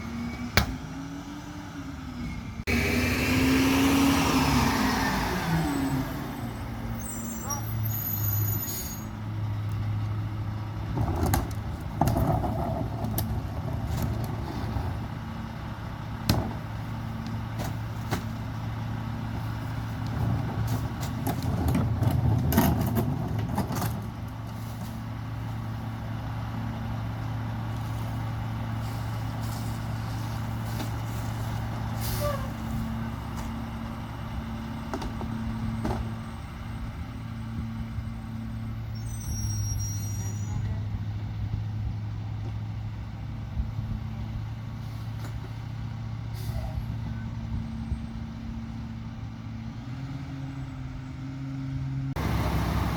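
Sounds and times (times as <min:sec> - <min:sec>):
garbage truck diesel engine running: 0:00.0 - 0:52.9.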